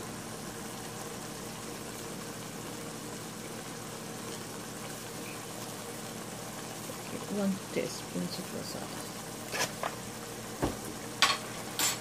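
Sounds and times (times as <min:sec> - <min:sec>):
food sizzling and bubbling in pan: 0:00.0 - 0:12.0.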